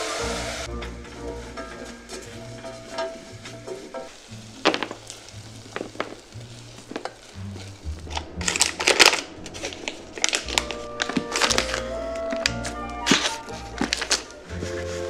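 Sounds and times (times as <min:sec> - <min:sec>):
nuts sizzling in syrup: 0:00.0 - 0:15.0
soft background music: 0:00.0 - 0:15.0.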